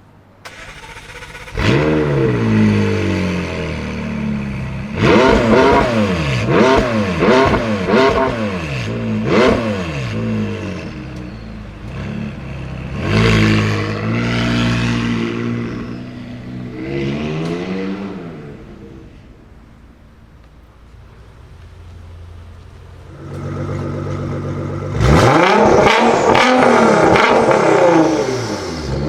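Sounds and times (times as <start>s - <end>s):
car engine idling: 0.0s - 29.0s
car engine revving: 0.4s - 29.0s.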